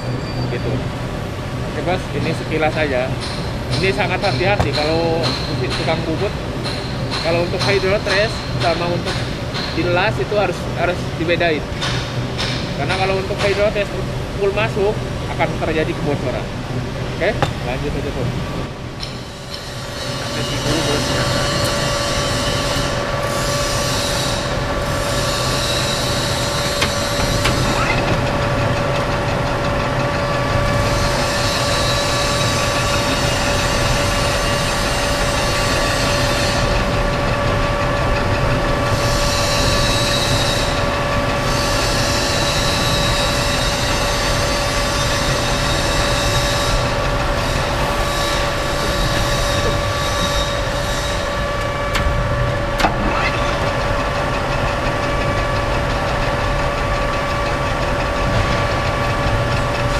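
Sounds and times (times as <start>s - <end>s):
lathe machinery humming: 0.1s - 59.9s.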